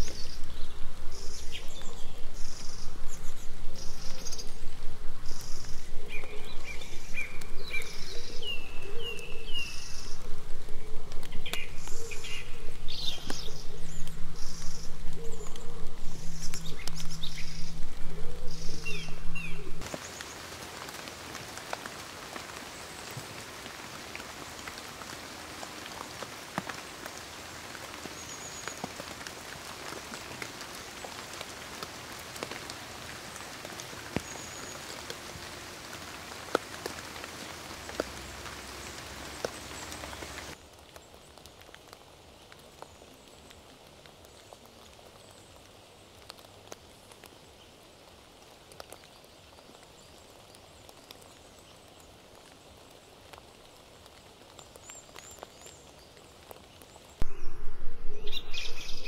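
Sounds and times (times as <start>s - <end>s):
raindrops ticking: 0.0s - 57.3s
rain in a forest: 0.0s - 59.0s.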